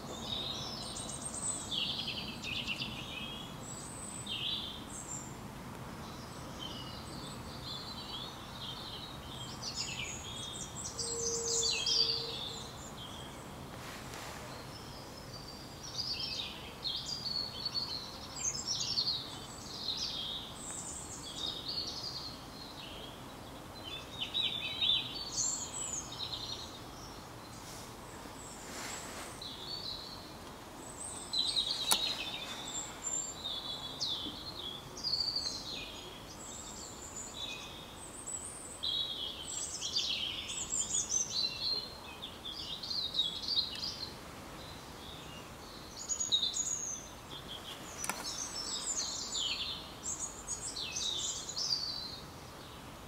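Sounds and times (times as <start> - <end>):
songbirds chirping: 0.0 - 53.0
steady background hiss: 0.0 - 53.0.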